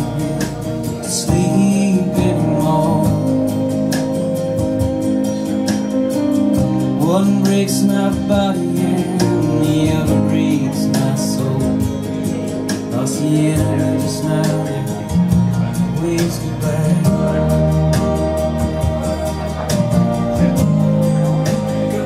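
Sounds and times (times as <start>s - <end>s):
song with guitar and singing: 0.0s - 22.0s.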